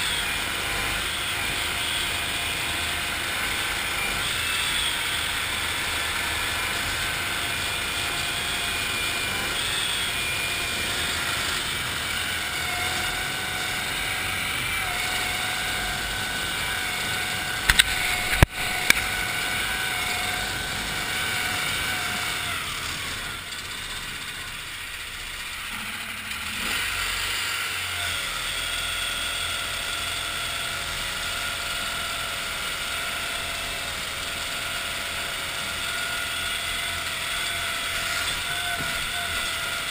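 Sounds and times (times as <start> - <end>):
tracked vehicle engine and tracks: 0.0 - 39.9.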